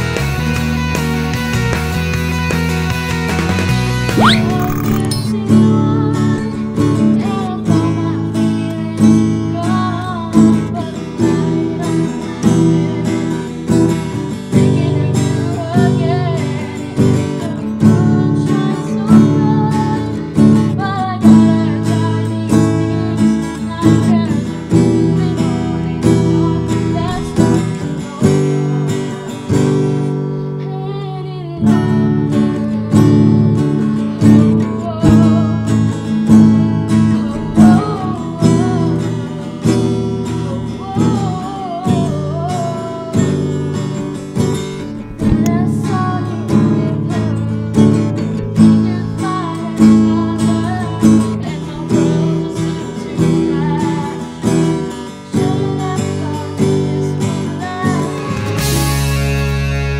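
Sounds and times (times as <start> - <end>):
guitar strumming: 1.3 - 59.9
girl singing: 4.2 - 29.2, 30.0 - 58.8.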